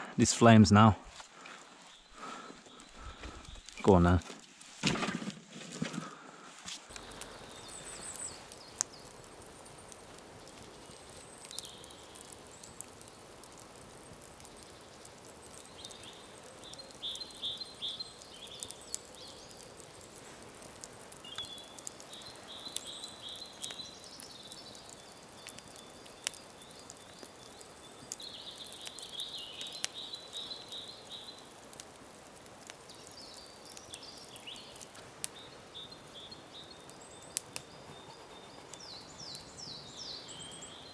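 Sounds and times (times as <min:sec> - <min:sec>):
campfire crackling and popping: 0:01.1 - 0:06.2, 0:06.8 - 0:40.9.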